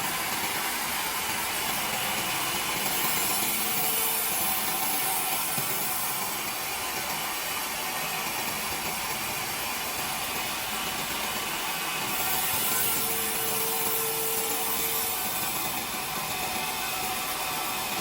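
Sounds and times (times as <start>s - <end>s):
saw cutting through timber: 0.0s - 18.0s.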